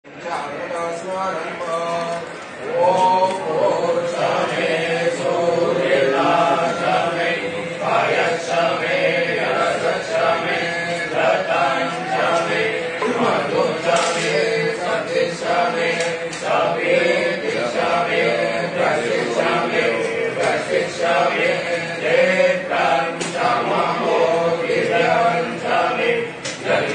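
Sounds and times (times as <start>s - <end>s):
voices chanting: 0.4s - 26.9s.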